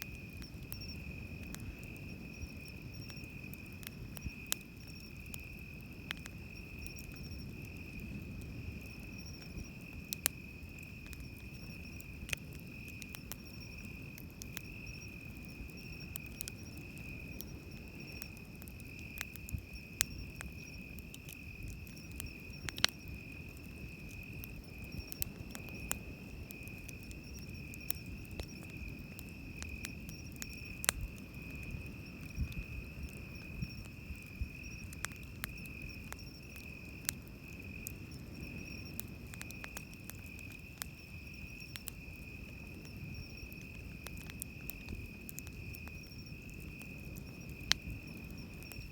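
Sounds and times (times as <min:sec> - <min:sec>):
campfire crackling: 0:00.0 - 0:48.9
insects trilling: 0:00.0 - 0:48.9.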